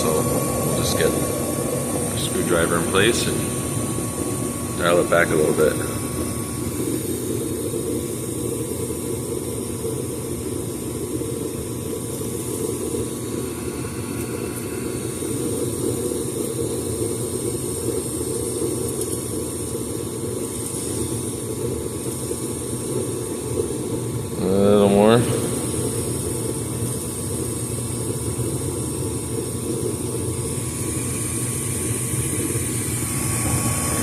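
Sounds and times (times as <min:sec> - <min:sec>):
gas furnace running: 0:00.0 - 0:34.0.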